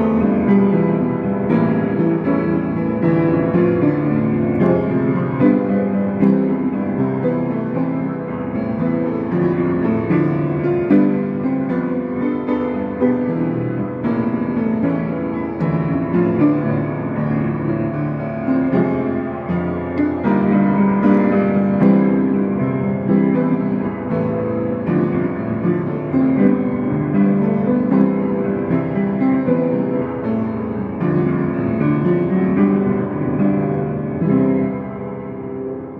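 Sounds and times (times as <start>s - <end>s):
solo piano playing: 0.0s - 35.9s.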